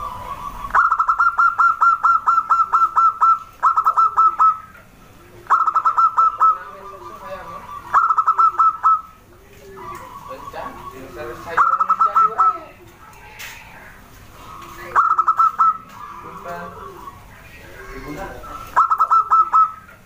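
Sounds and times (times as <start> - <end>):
dove rapid cooing notes: 0.0 - 20.0
soft low dove coos: 0.0 - 20.0.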